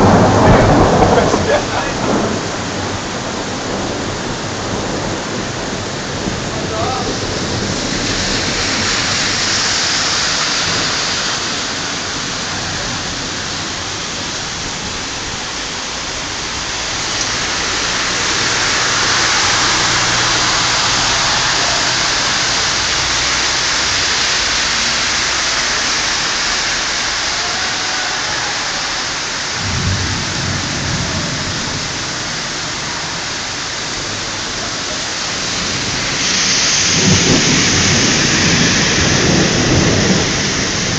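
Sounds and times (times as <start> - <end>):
thunder rumble: 0.0 - 27.7, 28.6 - 40.9
heavy rain hissing: 0.0 - 40.9.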